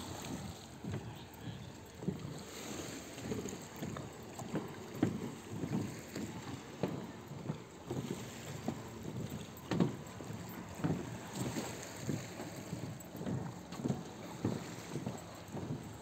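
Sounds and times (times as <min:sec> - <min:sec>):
lake water: 0:00.0 - 0:16.0
footsteps on wooden planks: 0:01.9 - 0:16.0.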